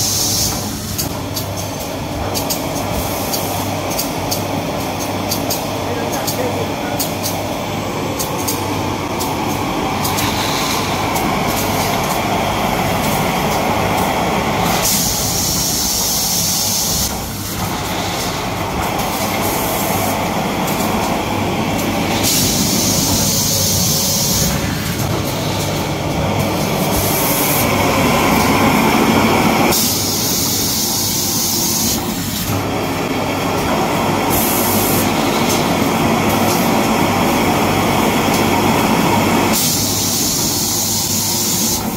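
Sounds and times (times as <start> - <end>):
machine hiss: 0.0 - 41.9.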